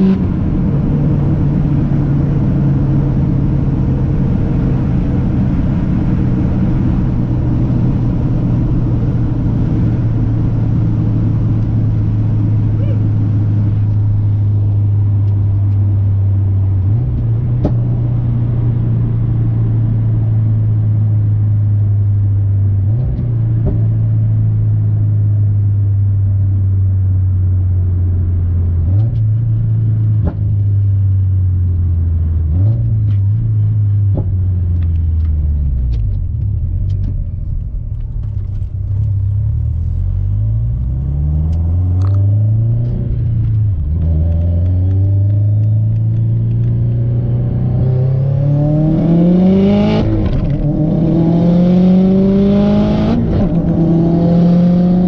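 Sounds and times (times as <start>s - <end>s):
car exhaust drone: 0.0s - 55.0s.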